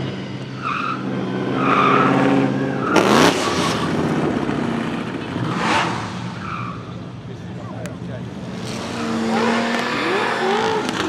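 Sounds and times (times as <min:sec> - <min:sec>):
car engine running hard: 0:00.9 - 0:11.0.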